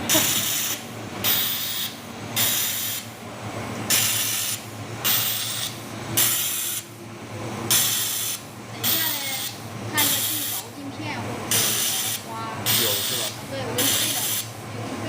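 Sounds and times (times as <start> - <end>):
laser welder hiss bursts: 0.0 - 3.2, 3.9 - 6.9, 7.7 - 10.7, 11.5 - 14.5
low machine hum: 0.0 - 15.0.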